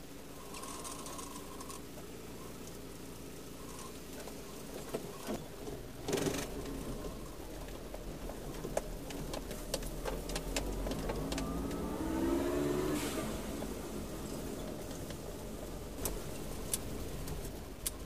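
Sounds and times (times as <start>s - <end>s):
car engine from inside cabin: 0.0s - 18.0s.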